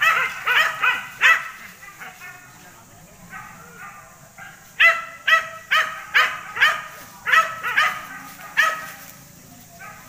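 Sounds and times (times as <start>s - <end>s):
dog barking: 0.0s - 2.4s, 3.3s - 9.1s, 9.7s - 10.0s.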